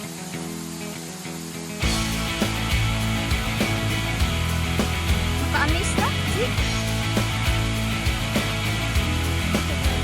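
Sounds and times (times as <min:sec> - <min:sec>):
background music with steady beat: 0:01.8 - 0:10.0.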